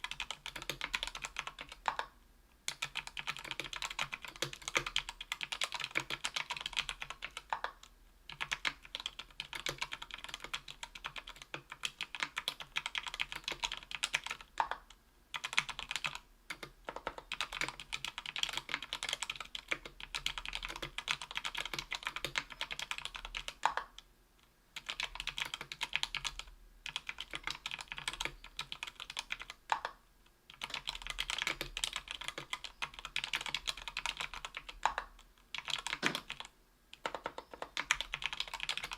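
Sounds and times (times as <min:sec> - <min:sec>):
mechanical keyboard typing: 0:00.0 - 0:02.1, 0:02.7 - 0:24.0, 0:24.8 - 0:38.9.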